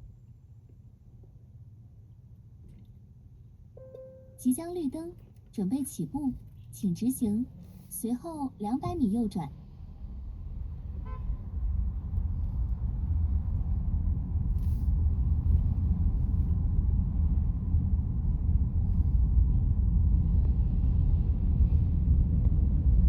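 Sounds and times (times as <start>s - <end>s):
road rumble inside car: 0.0s - 23.0s.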